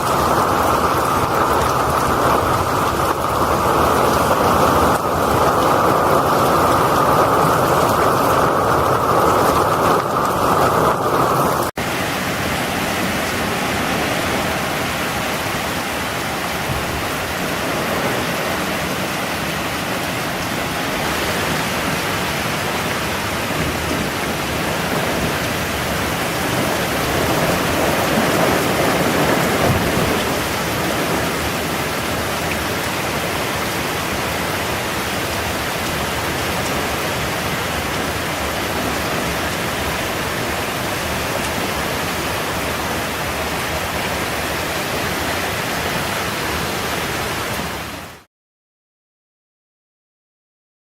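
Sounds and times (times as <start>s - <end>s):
heavy rain pouring: 0.0s - 48.3s.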